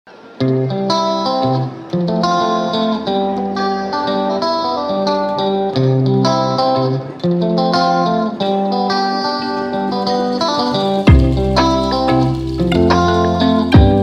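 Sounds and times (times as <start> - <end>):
plucked guitar melody: 0.1 - 14.0.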